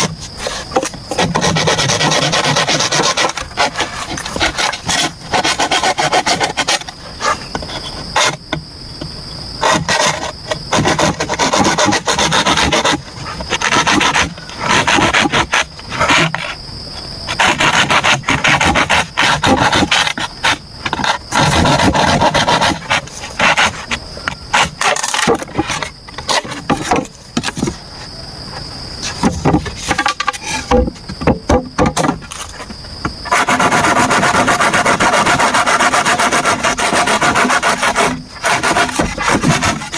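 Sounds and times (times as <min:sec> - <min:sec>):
hand tool rasping bamboo: 0:00.0 - 0:08.4, 0:09.6 - 0:16.6, 0:17.3 - 0:27.8, 0:29.0 - 0:39.9.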